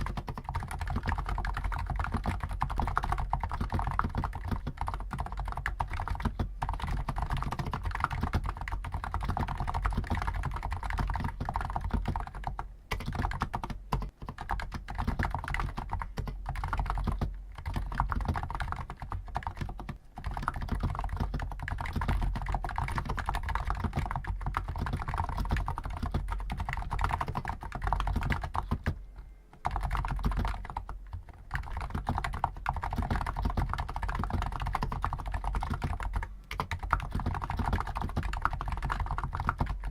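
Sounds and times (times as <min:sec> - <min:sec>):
rapid keyboard typing: 0:00.0 - 0:29.0, 0:29.6 - 0:39.9.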